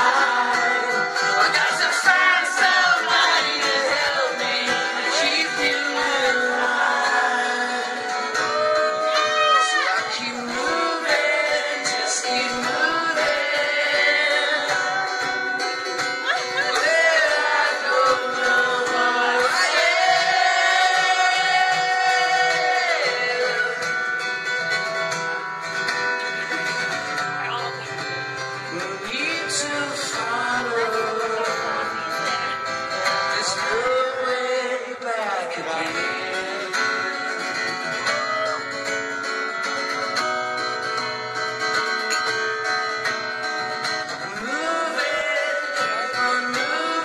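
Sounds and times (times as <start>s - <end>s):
man singing: 0.0s - 24.2s, 28.4s - 38.8s, 44.0s - 47.0s
acoustic guitar strumming: 0.0s - 47.0s.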